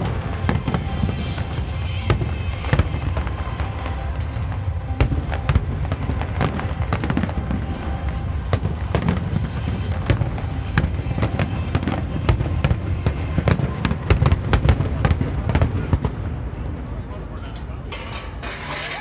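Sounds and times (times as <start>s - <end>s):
fireworks bangs and crackles: 0.0s - 18.8s.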